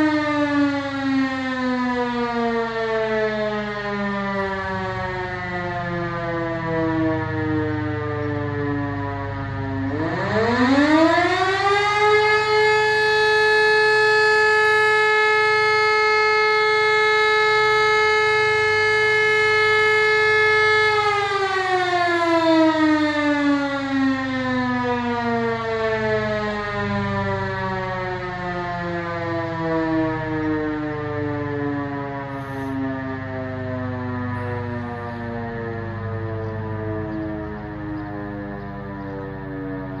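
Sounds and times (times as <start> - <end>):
electromechanical siren wailing: 0.0 - 40.0.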